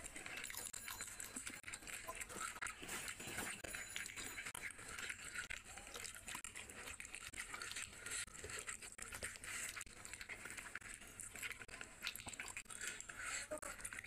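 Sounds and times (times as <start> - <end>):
close chewing and lip smacks: 0.0 - 14.0.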